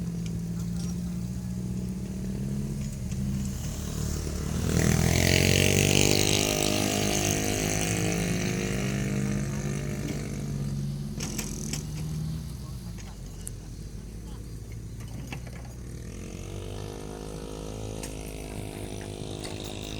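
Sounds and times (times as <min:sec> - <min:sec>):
vehicle engine running: 0:00.0 - 0:19.9
vehicle passing by: 0:00.0 - 0:19.9.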